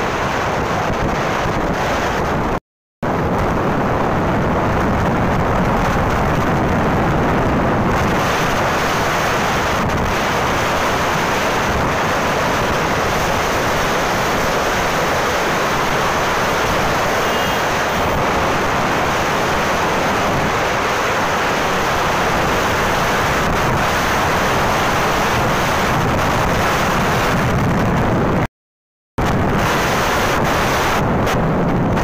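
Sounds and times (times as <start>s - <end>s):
motorcycle road noise: 0.0s - 28.5s, 29.2s - 32.0s
wind rush on microphone: 0.0s - 28.5s, 29.2s - 32.0s.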